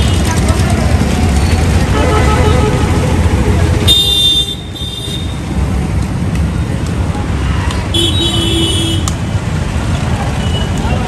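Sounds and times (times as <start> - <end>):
traffic engine rumble: 0.0 - 11.0.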